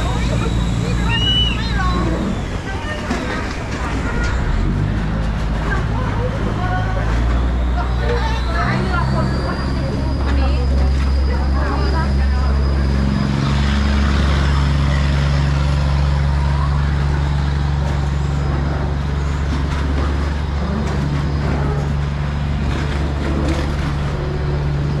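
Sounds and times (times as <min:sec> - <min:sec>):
boat diesel engine droning: 0:00.0 - 0:25.0.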